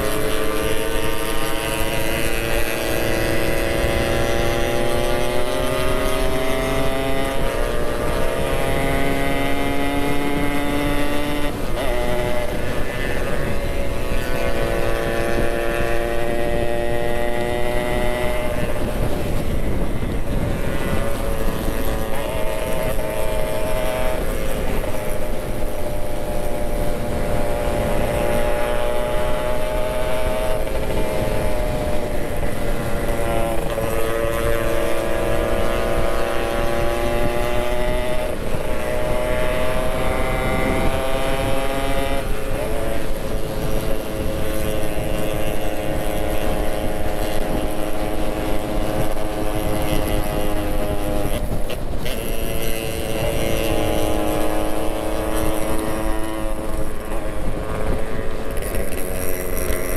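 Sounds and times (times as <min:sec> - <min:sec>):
two-stroke motorcycle engine: 0:00.0 - 0:59.9
wind rush on microphone: 0:00.0 - 0:59.9.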